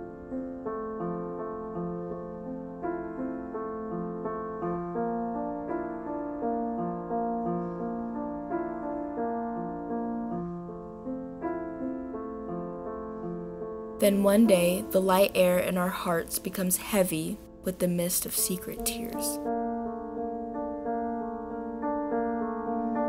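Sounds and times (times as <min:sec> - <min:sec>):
slow solo piano melody: 0:00.0 - 0:15.0, 0:18.7 - 0:23.0.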